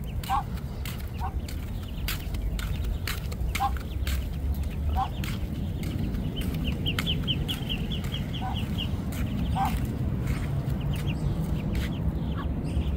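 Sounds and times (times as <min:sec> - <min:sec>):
ducklings peeping: 0:00.0 - 0:12.9
steady low rumble: 0:00.0 - 0:12.9
duck clucking: 0:00.2 - 0:12.5.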